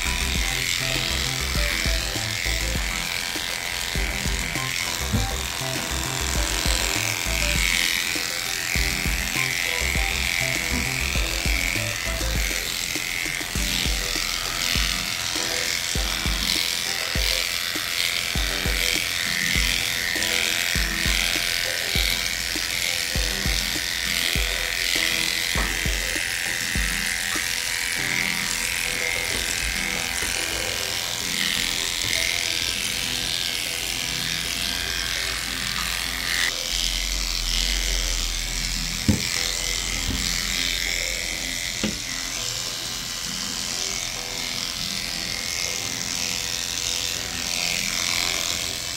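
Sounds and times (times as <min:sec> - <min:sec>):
background music with low beat: 0:00.0 - 0:43.7
electric clippers running: 0:00.0 - 0:48.9.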